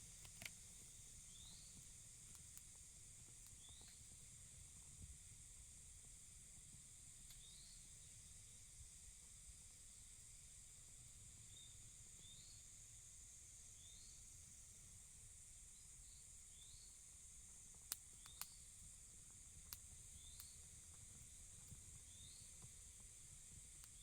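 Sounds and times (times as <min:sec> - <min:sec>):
insect-like hiss: 0:00.0 - 0:24.0.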